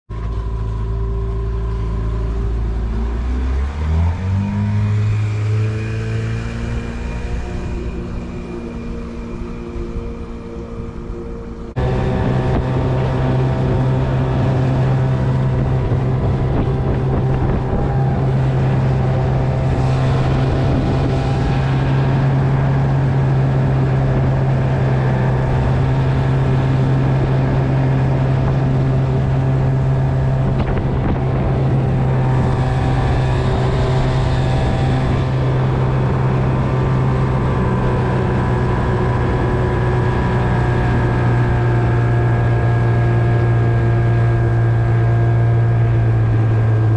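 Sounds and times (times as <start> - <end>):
outboard motor running: 0.1 - 46.9
rushing wind or water: 0.1 - 46.9.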